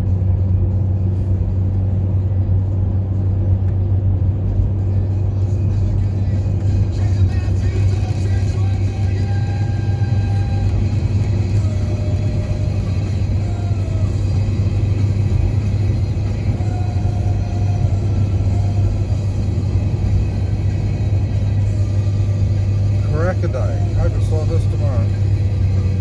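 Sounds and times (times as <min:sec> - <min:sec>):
car engine drone: 0:00.0 - 0:26.0
faint car radio: 0:00.0 - 0:26.0
road noise: 0:00.0 - 0:26.0.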